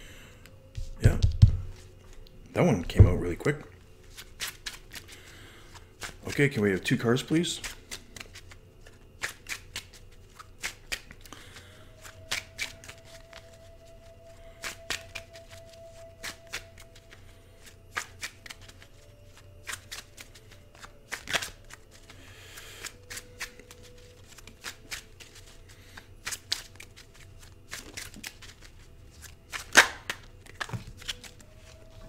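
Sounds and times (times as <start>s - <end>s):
playing cards shuffled by hand: 4.0s - 32.0s.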